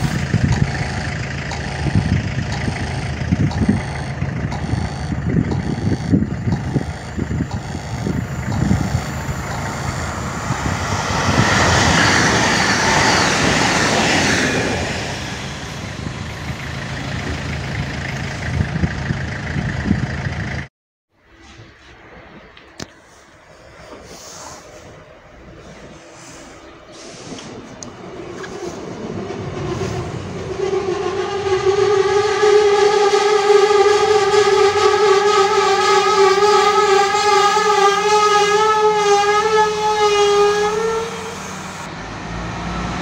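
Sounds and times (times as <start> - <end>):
train wheel and rail noise: 0.0 - 20.6, 21.2 - 43.0.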